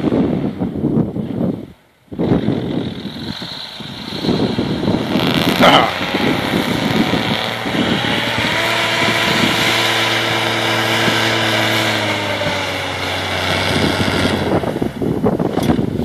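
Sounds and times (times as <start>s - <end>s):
steady rushing noise: 0.0s - 16.0s
vehicle engine running: 2.0s - 16.0s.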